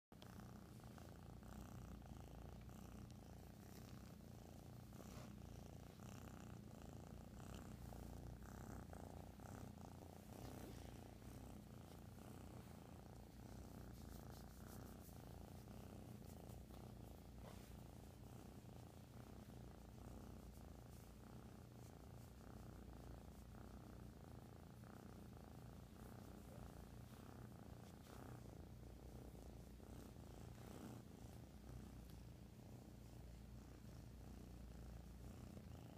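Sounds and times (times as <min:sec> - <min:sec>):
kitten purring: 0:00.1 - 0:35.9.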